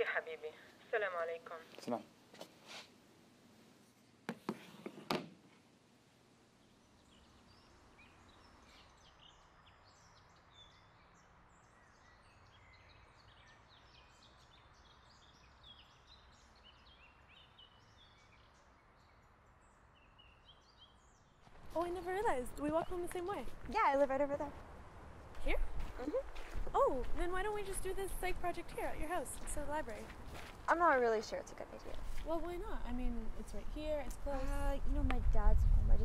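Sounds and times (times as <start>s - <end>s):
low steady hiss: 0.0s - 36.0s
small birds chirping: 6.4s - 24.7s, 25.3s - 36.0s.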